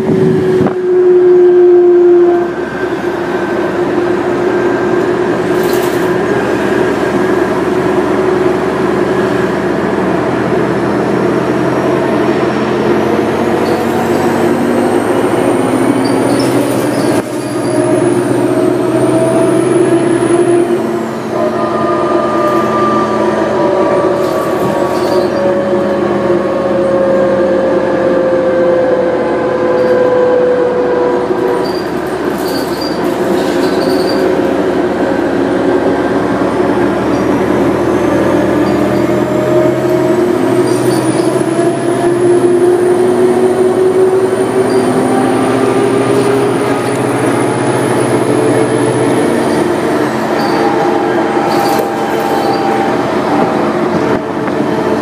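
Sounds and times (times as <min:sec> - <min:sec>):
bus drivetrain whine: 0:00.0 - 0:55.0
engine and road noise: 0:00.0 - 0:55.0.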